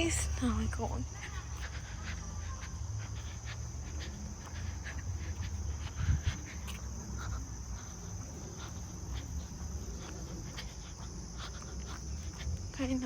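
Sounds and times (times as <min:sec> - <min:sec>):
insects chirring: 0:00.0 - 0:13.0
light footsteps: 0:00.0 - 0:13.0.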